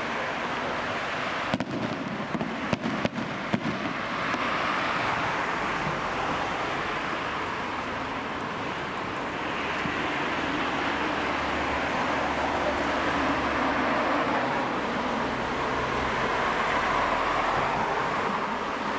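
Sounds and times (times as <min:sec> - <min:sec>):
vehicle road noise: 0:00.0 - 0:18.9.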